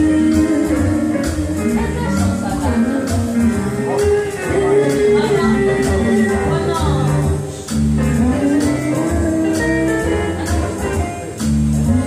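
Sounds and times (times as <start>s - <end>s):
guitar accompaniment: 0.0s - 12.0s
person singing: 0.0s - 12.0s.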